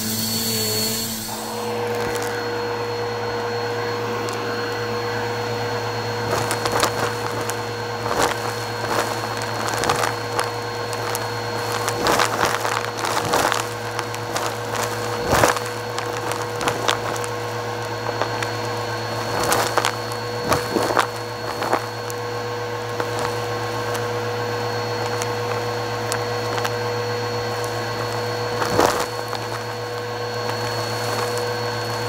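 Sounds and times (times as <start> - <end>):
vacuum cleaner running: 0.0 - 32.0
crunchy crackles and clicks: 0.9 - 3.4, 4.0 - 32.0.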